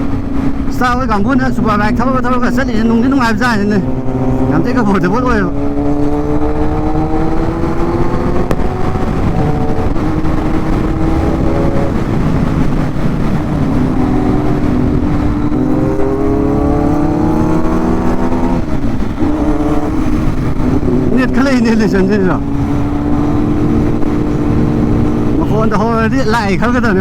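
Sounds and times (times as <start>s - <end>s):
motorcycle engine accelerating: 0.0s - 27.0s
wind rumble on microphone: 0.0s - 27.0s.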